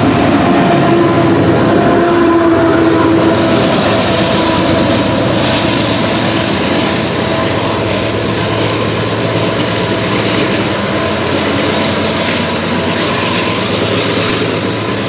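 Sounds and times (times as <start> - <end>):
diesel locomotive drone: 0.0 - 15.0
steel wheels rumbling on rails: 0.0 - 15.0.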